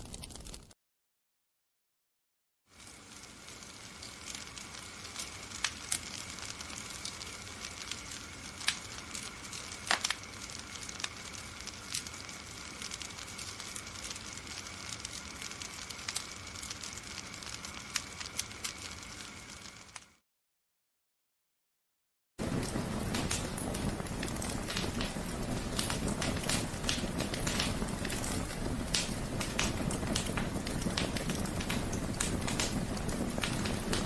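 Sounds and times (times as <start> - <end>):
fire crackling and hissing: 0.0 - 0.8, 2.7 - 20.2, 22.4 - 34.0.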